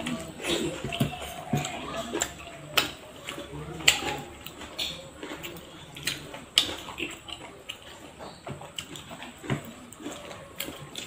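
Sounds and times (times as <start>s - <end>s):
wet chewing and lip-smacking: 0.0s - 11.0s.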